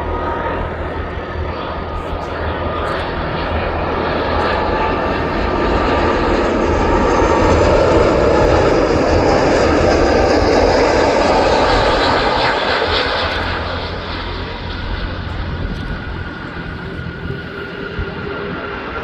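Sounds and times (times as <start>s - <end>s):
jet engines landing: 0.0s - 19.0s.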